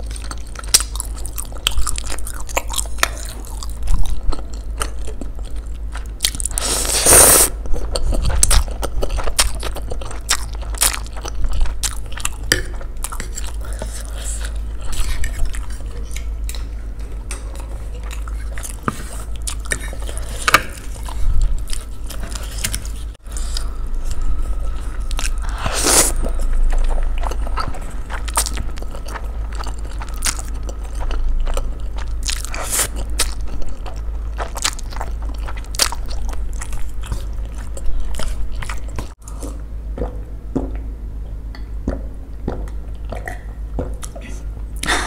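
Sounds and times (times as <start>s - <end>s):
person chewing and slurping noodles: 0.0s - 40.8s
low hum: 7.5s - 45.0s.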